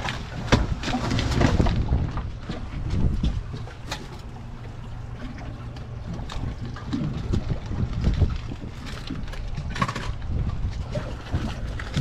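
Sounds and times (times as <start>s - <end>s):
water lapping against boat: 0.0s - 12.0s
wind buffeting microphone: 0.0s - 12.0s.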